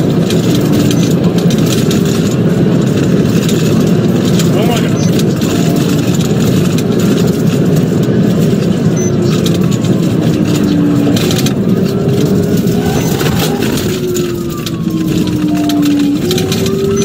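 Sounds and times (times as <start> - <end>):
car road and engine noise: 0.0 - 17.0
faint police siren wail: 0.0 - 17.0.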